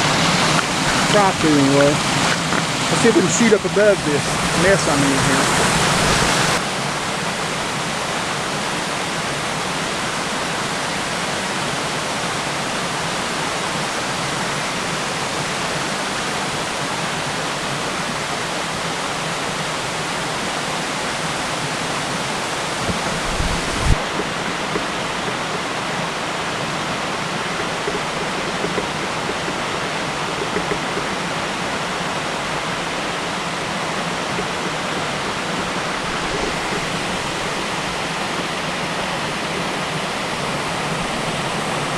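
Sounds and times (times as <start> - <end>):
waterfall roaring: 0.0 - 41.9.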